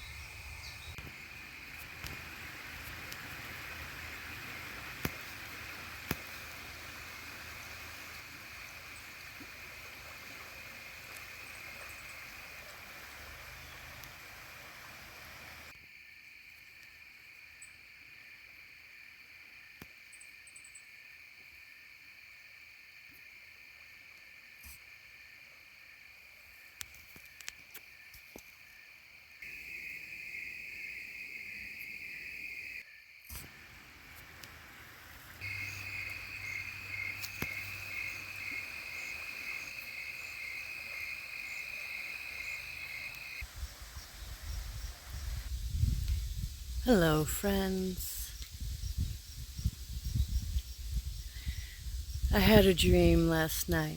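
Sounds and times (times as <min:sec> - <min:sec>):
crickets chirring: 0:00.0 - 0:53.9
faint outdoor background noise: 0:00.0 - 0:53.9.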